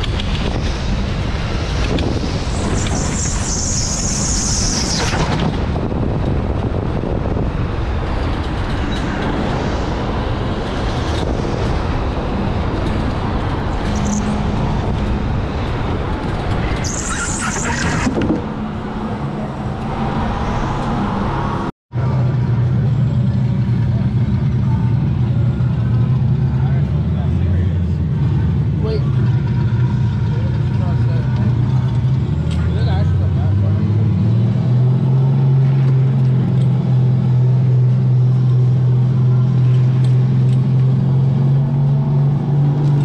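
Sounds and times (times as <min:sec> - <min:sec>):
go-kart rumble: 0:00.0 - 0:43.0.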